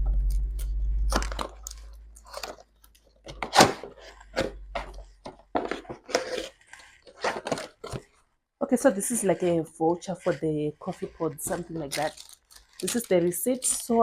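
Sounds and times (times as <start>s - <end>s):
packaging crackling and rustling: 0.0s - 14.0s.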